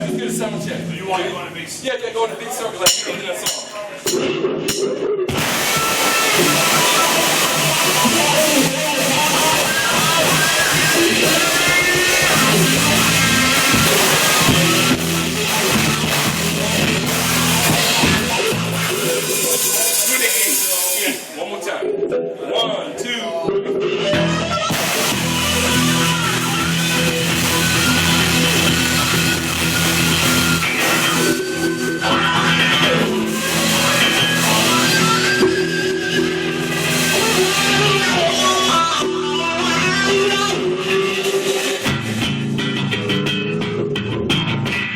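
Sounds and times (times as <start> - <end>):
bass guitar: 0.0 - 1.6, 2.9 - 19.7, 23.5 - 44.9
drums: 2.8 - 21.4, 23.4 - 44.9
electric guitar: 2.9 - 21.3, 23.5 - 44.9.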